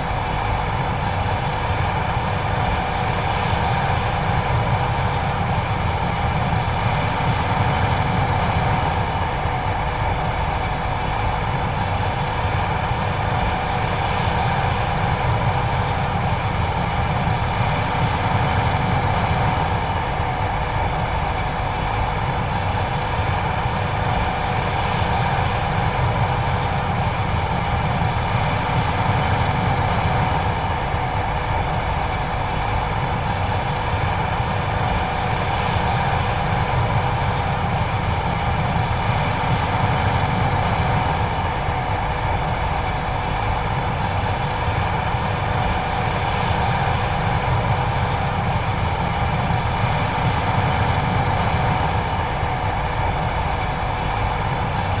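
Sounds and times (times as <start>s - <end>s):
combine harvester drone: 0.0s - 55.0s
constant mechanical whine: 0.0s - 55.0s.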